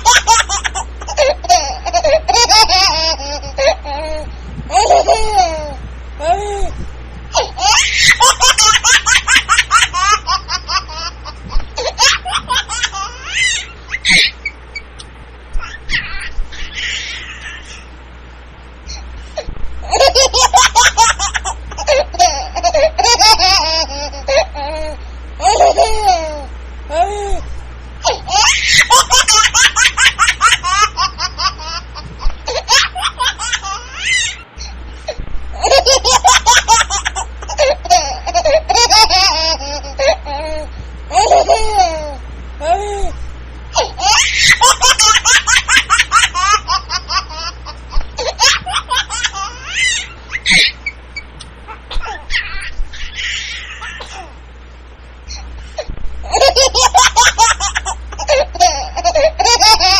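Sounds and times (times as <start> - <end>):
baby laughing: 0.0 - 14.6, 15.6 - 17.9, 18.9 - 27.4, 28.0 - 34.4, 35.1 - 51.0, 51.7 - 54.3, 56.2 - 59.9.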